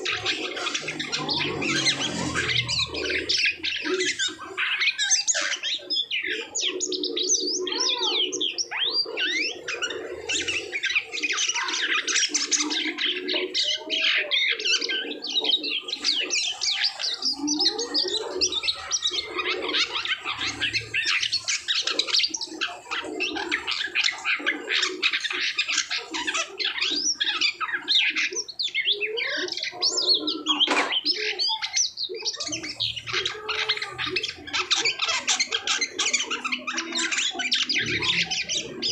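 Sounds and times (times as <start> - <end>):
starling chattering song: 0.0 - 38.9.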